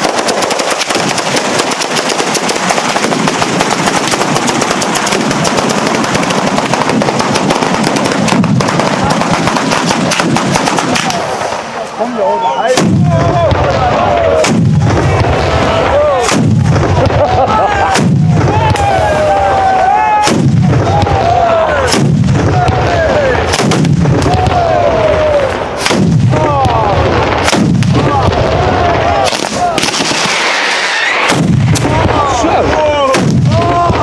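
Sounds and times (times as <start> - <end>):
heavy firecracker bangs: 0.0 - 11.9, 12.7 - 34.0
firecrackers crackling: 0.0 - 34.0.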